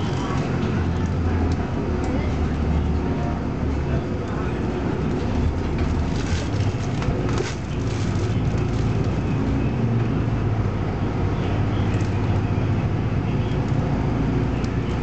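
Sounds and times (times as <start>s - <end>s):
bus engine drone: 0.0s - 15.0s
road noise: 0.0s - 15.0s.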